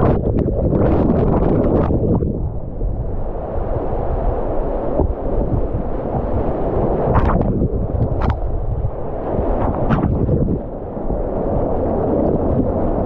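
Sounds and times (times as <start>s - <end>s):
waves splashing over microphone: 0.0s - 13.0s.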